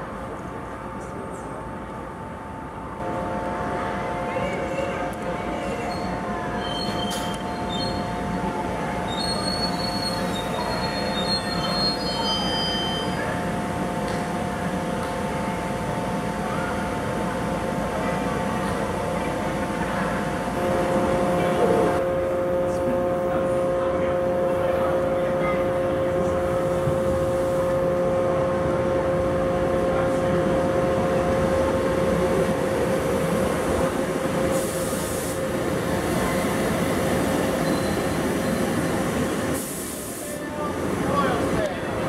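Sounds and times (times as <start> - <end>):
electric train whine: 0.0 - 42.0.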